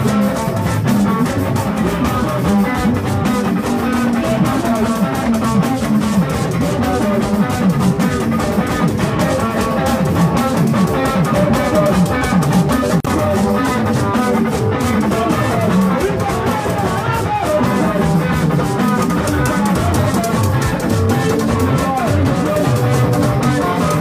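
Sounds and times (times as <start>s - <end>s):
drums: 0.0s - 24.0s
electric guitar: 0.0s - 24.0s.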